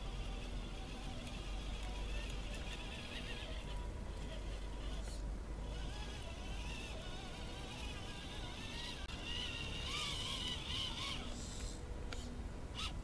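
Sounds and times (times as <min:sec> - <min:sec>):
toy truck electric motor whining: 0:00.0 - 0:11.7, 0:12.7 - 0:13.0.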